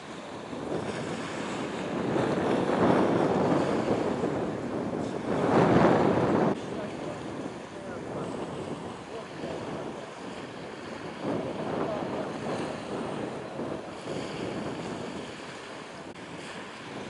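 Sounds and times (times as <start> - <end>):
waves washing: 0.0 - 17.0
wind on microphone: 0.0 - 17.0.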